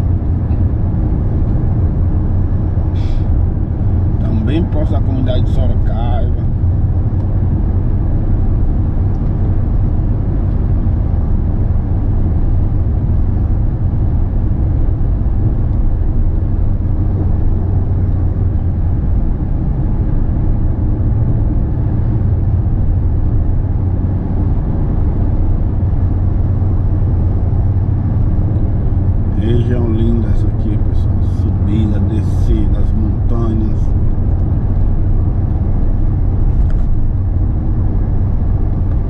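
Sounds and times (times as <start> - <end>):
engine and tyre rumble: 0.0 - 39.0.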